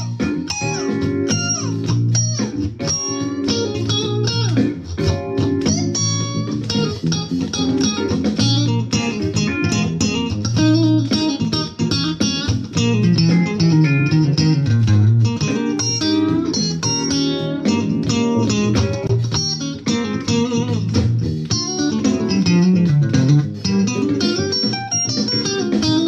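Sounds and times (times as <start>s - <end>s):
electric guitar funk lines: 0.0s - 26.0s.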